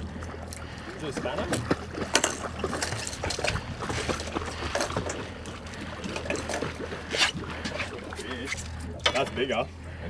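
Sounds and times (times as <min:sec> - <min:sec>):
low steady hum: 0:00.0 - 0:10.0
water sloshing against boat hull: 0:00.0 - 0:10.0.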